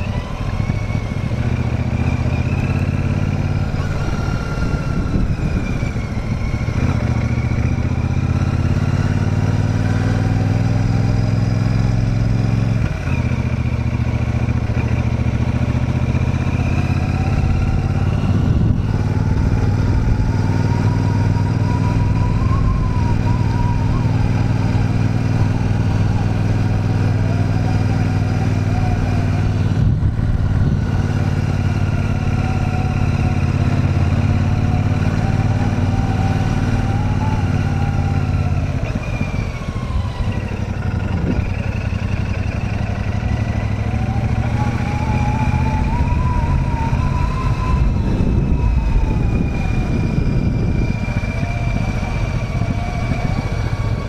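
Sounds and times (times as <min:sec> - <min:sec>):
motorcycle engine and exhaust: 0:00.0 - 0:54.0.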